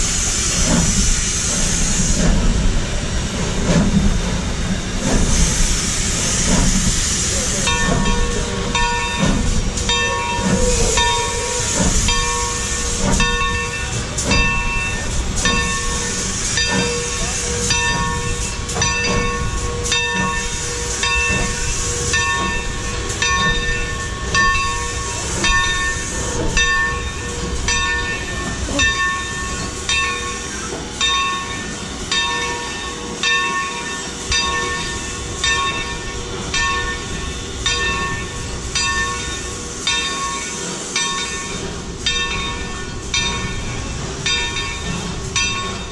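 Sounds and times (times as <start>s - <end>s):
steam hiss: 0.0s - 45.9s
locomotive bell ringing: 7.5s - 45.9s.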